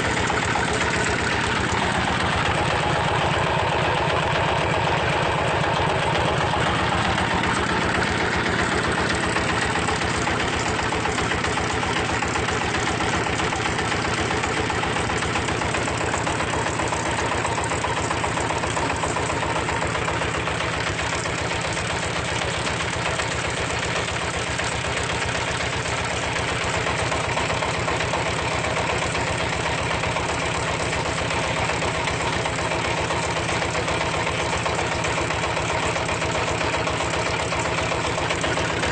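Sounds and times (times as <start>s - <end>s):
brick moulding machine engine: 0.0s - 38.9s.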